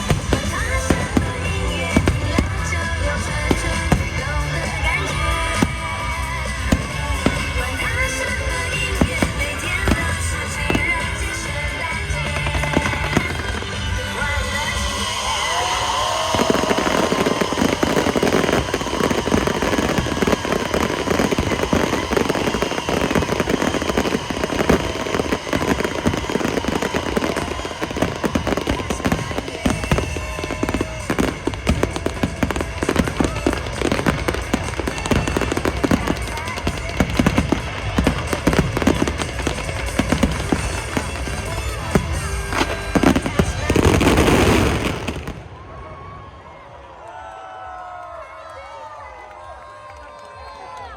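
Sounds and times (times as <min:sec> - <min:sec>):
music playing: 0:00.0 - 0:45.4
fireworks crackling: 0:00.0 - 0:46.9.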